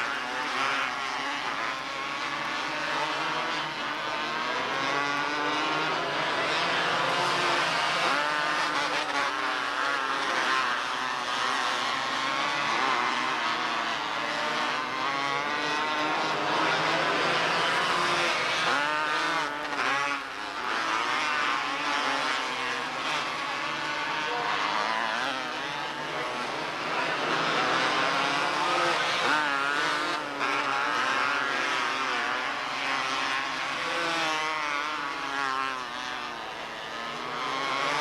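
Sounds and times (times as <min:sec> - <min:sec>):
race car engines revving: 0:00.0 - 0:38.0.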